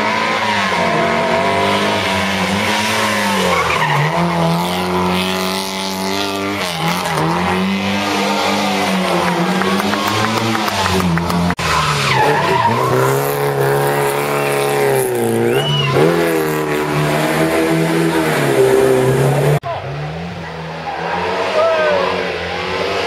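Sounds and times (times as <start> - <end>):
rally car engines revving: 0.0 - 23.0.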